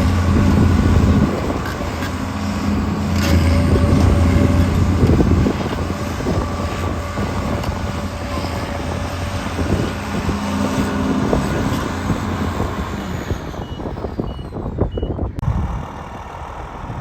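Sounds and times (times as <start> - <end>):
diesel engine running deep hum: 0.0 - 17.0.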